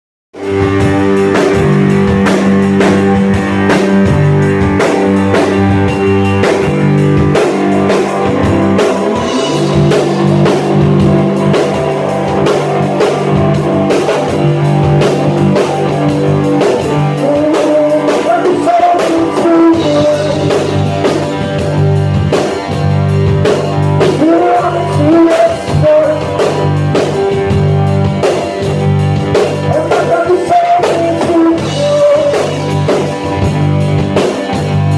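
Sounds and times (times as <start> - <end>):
rock band playing live: 0.4 - 34.9.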